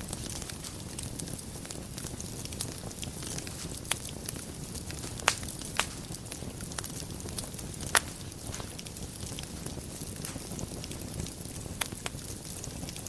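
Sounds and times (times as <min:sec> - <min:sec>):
fire crackles and pops: 0:00.0 - 0:13.0
wood fire rumbling and hissing: 0:00.0 - 0:13.0.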